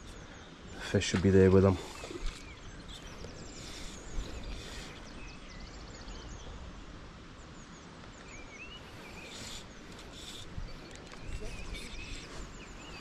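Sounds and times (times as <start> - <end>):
outdoor background hiss: 0.0 - 13.0
small songbirds chirping and trilling: 0.0 - 13.0.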